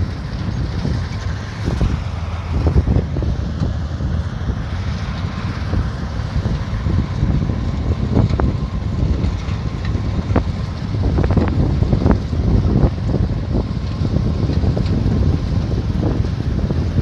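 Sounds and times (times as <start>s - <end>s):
combine harvester rumbling: 0.0s - 17.0s
wind buffeting microphone: 0.0s - 17.0s.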